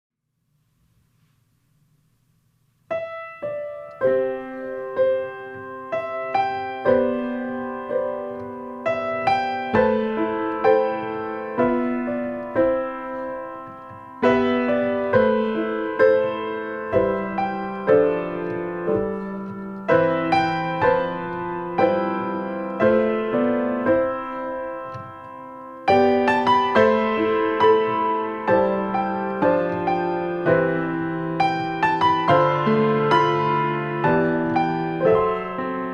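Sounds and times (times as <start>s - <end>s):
piano chords ringing: 1.6s - 35.9s.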